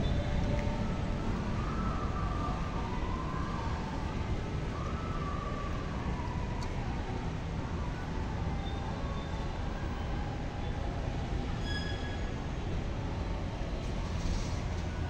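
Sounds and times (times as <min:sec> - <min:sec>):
steady low street rumble: 0:00.0 - 0:15.0.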